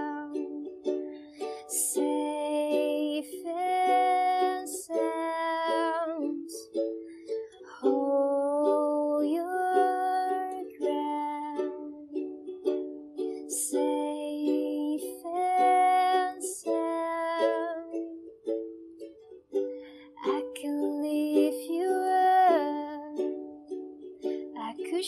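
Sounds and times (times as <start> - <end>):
ukulele melody: 0.0 - 25.0.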